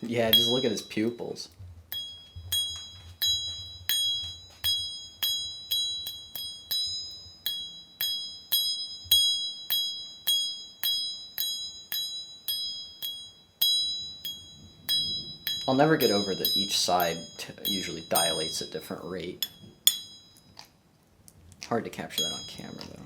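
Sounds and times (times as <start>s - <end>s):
glass vessel tapped ringing: 0.0s - 20.8s, 22.1s - 23.0s.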